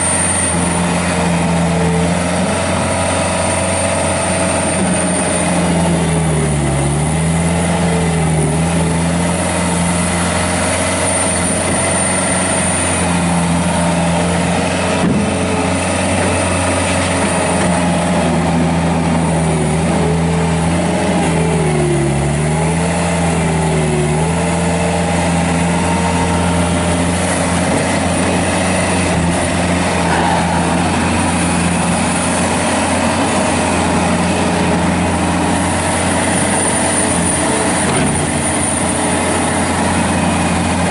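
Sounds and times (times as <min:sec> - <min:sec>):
diesel engine running at high revs: 0:00.0 - 0:40.9.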